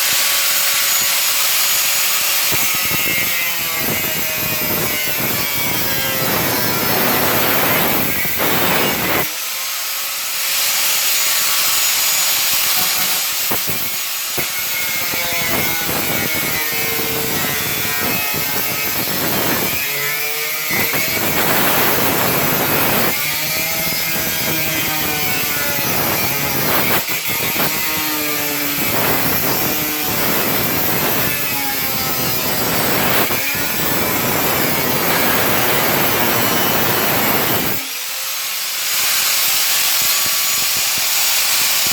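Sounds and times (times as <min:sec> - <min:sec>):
angle grinder cutting panel: 0:00.0 - 0:41.9.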